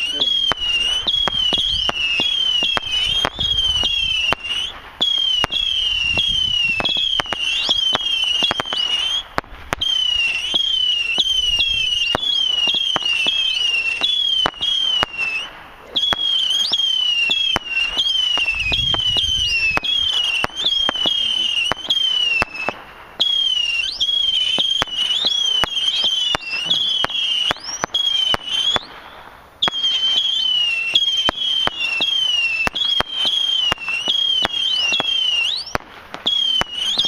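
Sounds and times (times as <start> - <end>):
firework cracks: 0.0 - 37.0
whistling firework missiles: 0.0 - 37.0.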